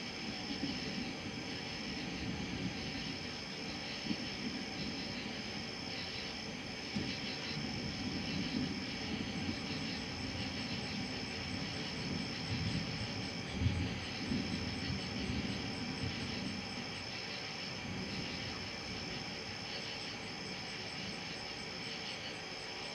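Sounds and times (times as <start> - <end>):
distant thunder rumbling: 0.0 - 22.9
night insects chirping: 0.0 - 22.9.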